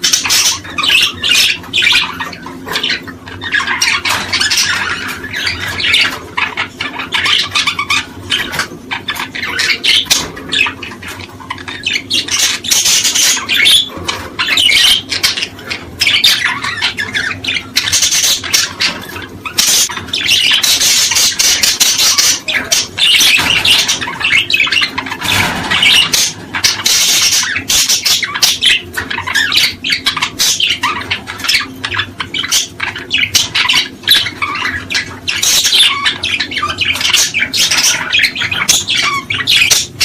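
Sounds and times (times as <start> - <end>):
small birds chattering and chirping: 0.0 - 40.0.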